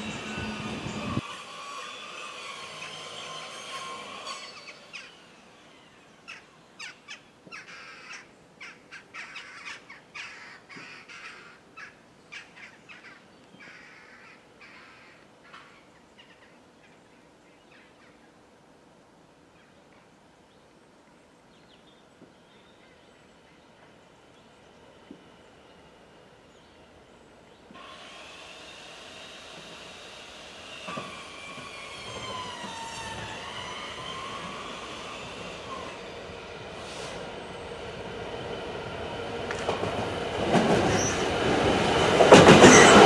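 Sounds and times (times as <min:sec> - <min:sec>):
train: 0:00.0 - 0:20.0, 0:21.5 - 0:43.0.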